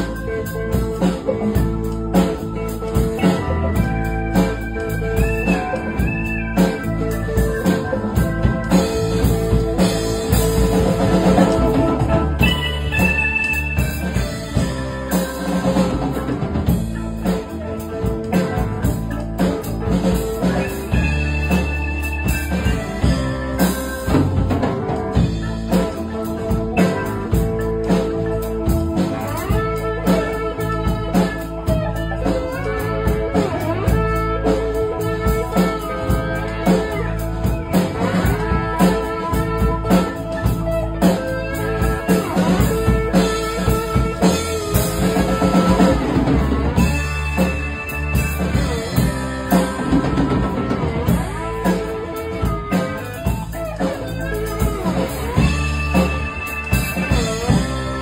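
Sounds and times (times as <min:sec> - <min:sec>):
drum kit beat: 0:00.0 - 0:58.0
electric bass: 0:00.0 - 0:58.0
electric guitar: 0:00.0 - 0:58.0.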